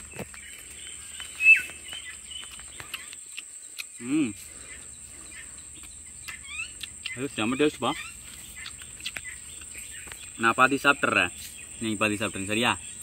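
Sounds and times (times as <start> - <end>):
bird chirps: 0.0 - 13.0
high insect drone: 0.0 - 13.0.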